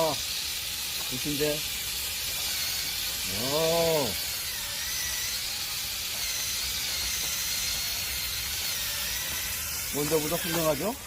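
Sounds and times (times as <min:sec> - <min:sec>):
line cleaner hiss and whine: 0:00.0 - 0:11.0.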